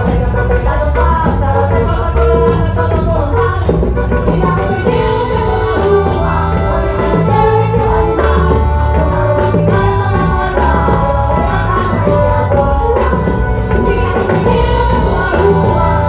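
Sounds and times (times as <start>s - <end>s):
person singing: 0.0s - 16.0s
steady bass line: 0.0s - 16.0s.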